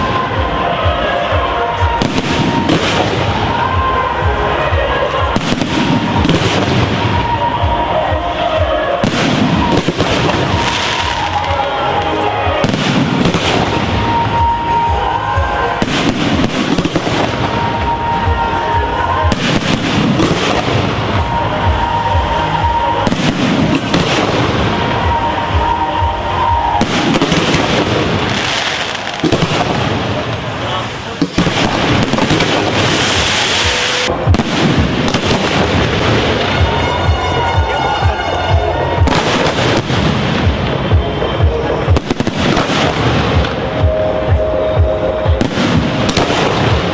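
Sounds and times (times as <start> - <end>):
fireworks bangs: 0.0 - 46.9
fireworks crackling: 0.0 - 46.9
music playing: 0.0 - 46.9.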